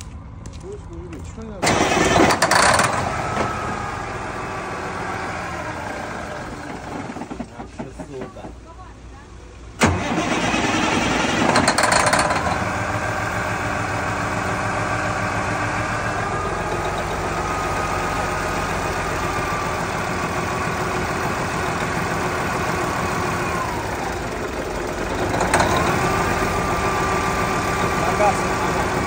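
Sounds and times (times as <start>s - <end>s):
engine whine: 0.0s - 29.0s
truck engine running: 0.0s - 29.0s.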